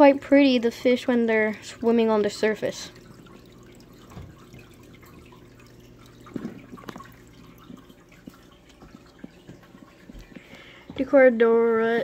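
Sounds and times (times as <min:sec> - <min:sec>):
steady low hum: 0:00.0 - 0:12.0
water trickling and dripping: 0:00.0 - 0:12.0.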